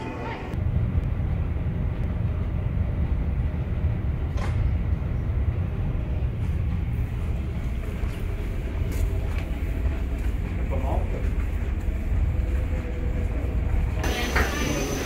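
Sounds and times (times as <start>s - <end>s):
low rumble of terminal noise: 0.0s - 15.0s.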